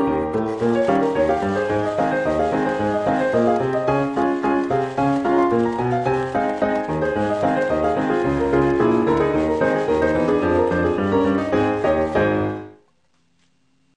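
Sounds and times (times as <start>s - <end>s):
piano music with bass line: 0.0s - 12.8s.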